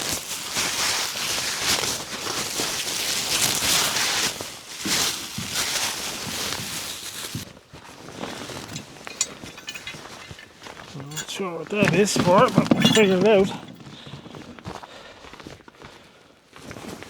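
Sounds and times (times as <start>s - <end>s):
rustling crackling handling noise: 0.0s - 15.7s.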